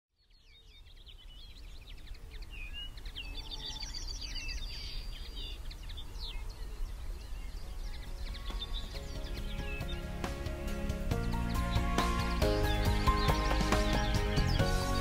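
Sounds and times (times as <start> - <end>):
small birds chirping and singing: 0.1 - 15.0.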